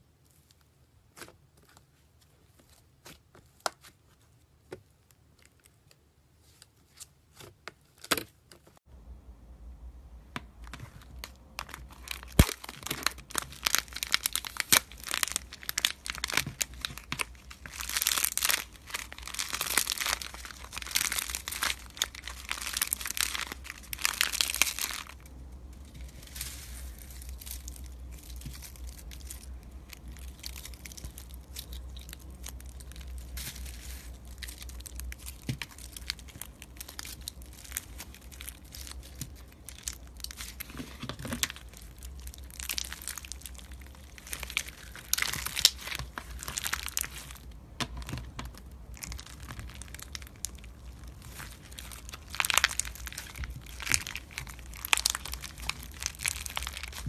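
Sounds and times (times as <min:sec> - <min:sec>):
plastic bag crinkling: 0:10.6 - 0:57.0.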